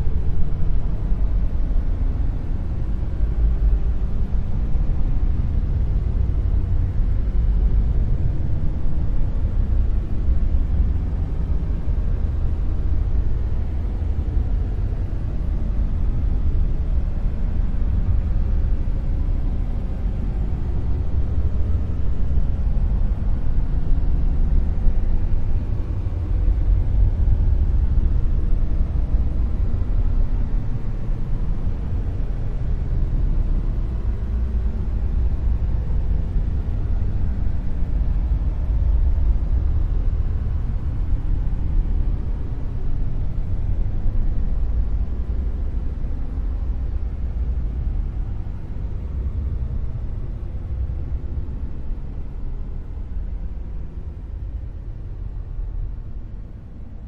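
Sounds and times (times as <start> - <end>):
deep rumbling noise hiss: 0.0 - 57.0.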